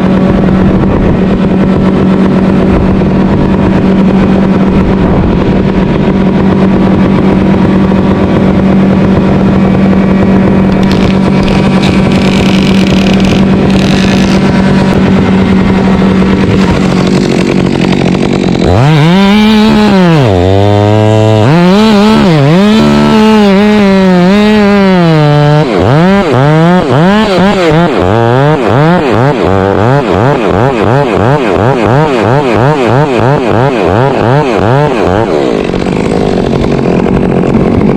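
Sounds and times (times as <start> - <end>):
chainsaw revving: 0.0 - 37.9.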